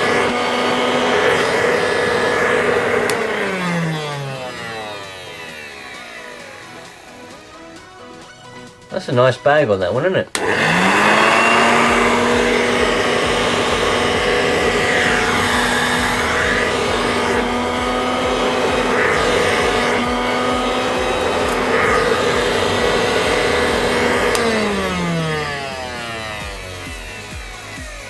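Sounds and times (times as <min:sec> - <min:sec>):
motor winding down: 0:00.0 - 0:09.0, 0:10.3 - 0:28.0
vacuum cleaner motor hum: 0:00.0 - 0:09.4, 0:10.3 - 0:28.0.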